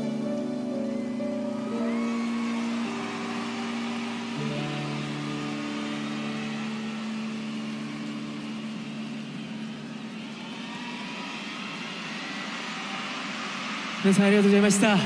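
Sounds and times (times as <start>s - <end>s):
concert crowd cheering: 0.0s - 15.0s.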